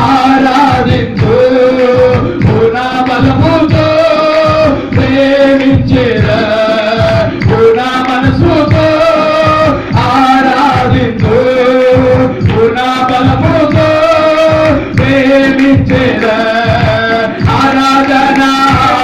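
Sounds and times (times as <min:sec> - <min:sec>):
men singing worship song: 0:00.0 - 0:19.0
rhythmic musical accompaniment: 0:00.0 - 0:19.0.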